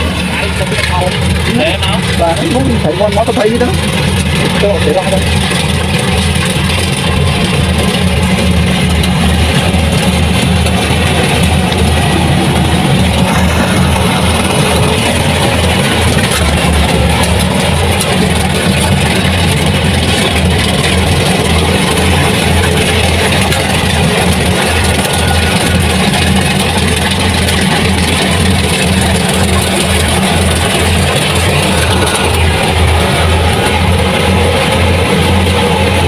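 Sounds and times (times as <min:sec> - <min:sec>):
heavy machine engine throbbing: 0:00.0 - 0:36.0.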